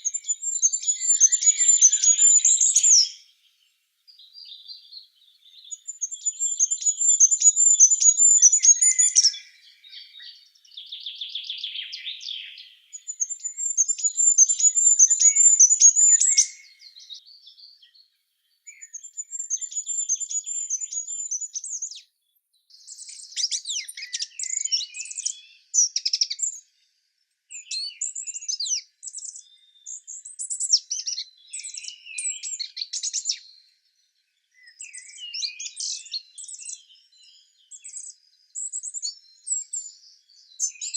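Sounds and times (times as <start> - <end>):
songbirds singing trills: 0.0 - 40.9.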